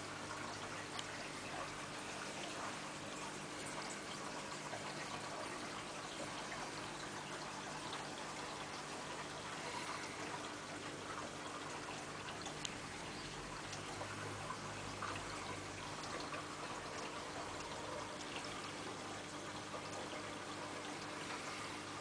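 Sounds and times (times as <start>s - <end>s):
aquarium water trickling: 0.0s - 22.0s
water drips: 0.0s - 22.0s.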